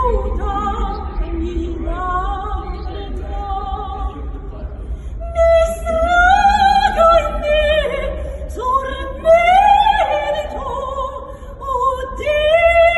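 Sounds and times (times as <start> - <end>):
woman singing opera: 0.0 - 4.5, 5.2 - 12.9.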